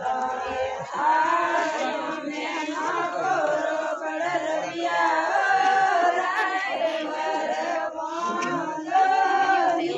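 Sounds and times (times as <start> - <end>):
group singing folk song: 0.0 - 9.9.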